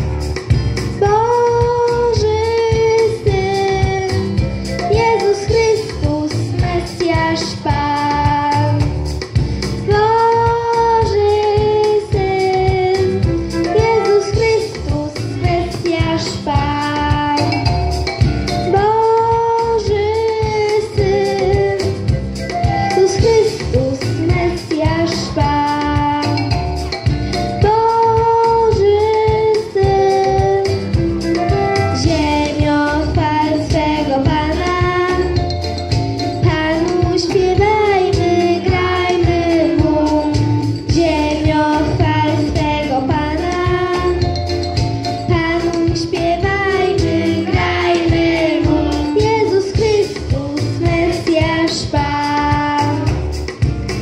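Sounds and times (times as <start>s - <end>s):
instrumental backing with beat: 0.0s - 54.0s
girl singing into microphone: 0.9s - 9.0s, 9.8s - 17.8s, 18.7s - 22.0s, 22.7s - 26.6s, 27.5s - 35.5s, 36.4s - 44.4s, 45.2s - 53.2s.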